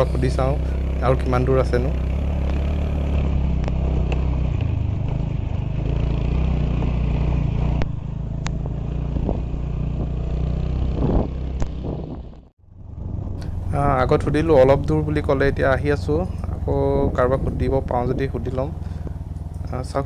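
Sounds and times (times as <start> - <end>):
motorcycle engine at low speed: 0.0 - 20.0.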